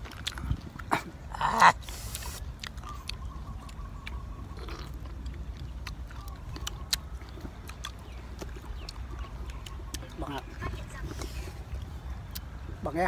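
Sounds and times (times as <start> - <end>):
person chewing soft fruit: 0.0 - 12.8.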